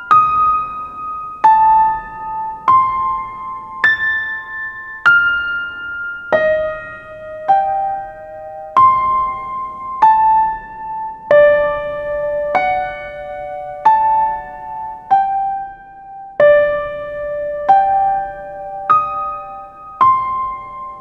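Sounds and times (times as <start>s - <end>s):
gentle electric piano melody: 0.0s - 21.0s.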